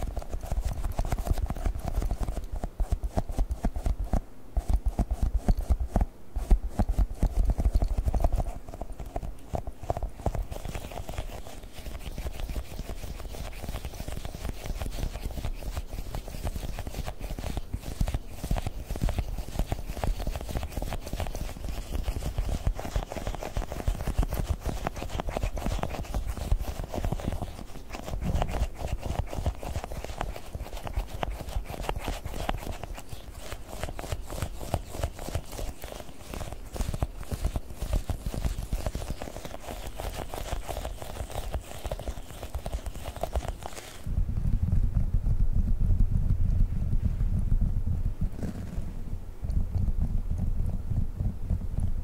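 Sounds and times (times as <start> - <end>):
fingertips tapping gel balls: 0.0 - 44.1.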